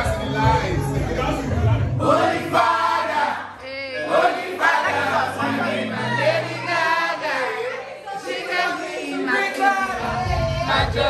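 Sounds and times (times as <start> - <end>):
voices singing over bass line: 0.0 - 11.0.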